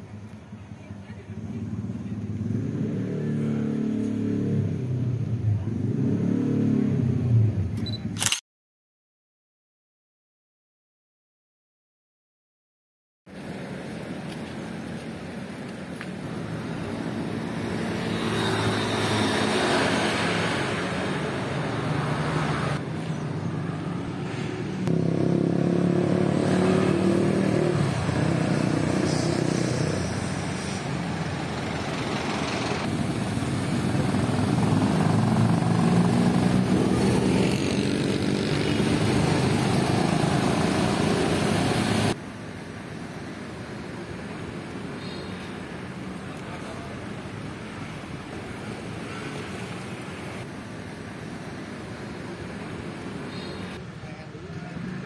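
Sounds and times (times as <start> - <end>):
motorcycle engines passing by: 0.0 - 7.8, 15.7 - 42.2, 43.9 - 55.0.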